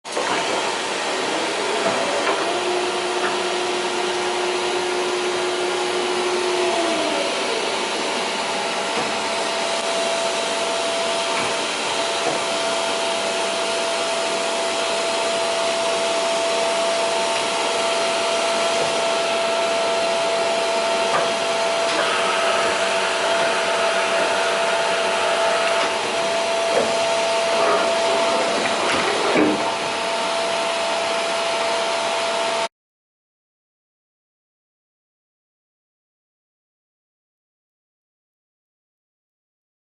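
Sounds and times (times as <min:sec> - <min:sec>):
machining center whirring and whining: 0:00.1 - 0:32.7.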